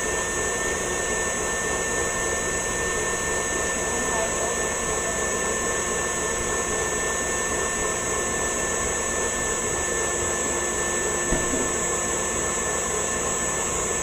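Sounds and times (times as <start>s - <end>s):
kitchen appliance motor whine: 0.0s - 14.0s.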